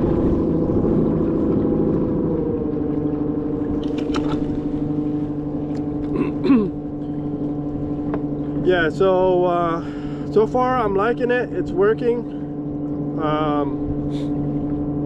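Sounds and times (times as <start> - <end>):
electric boat motor humming: 0.0 - 15.0
water noise: 0.0 - 15.0.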